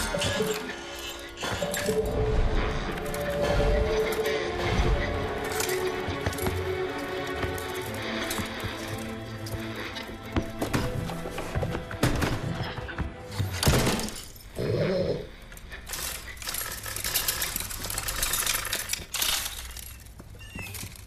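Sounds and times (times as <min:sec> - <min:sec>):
background music: 0:00.0 - 0:20.2.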